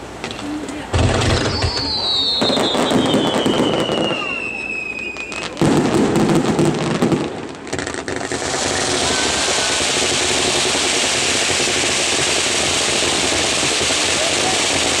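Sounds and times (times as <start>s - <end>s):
fireworks crackling: 0.0s - 15.0s
hiss of ground fountains: 0.0s - 15.0s.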